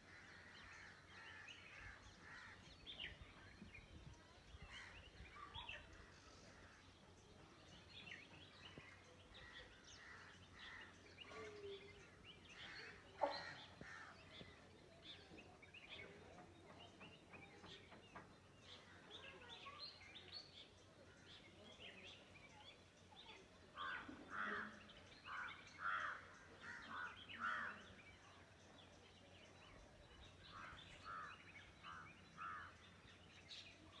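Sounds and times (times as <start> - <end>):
bird calls and chirps: 0.0 - 34.0.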